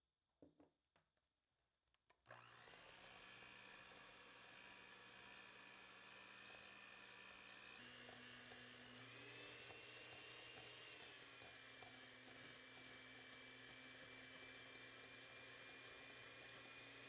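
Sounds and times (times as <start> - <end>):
electric hand mixer motor humming: 2.3 - 17.0.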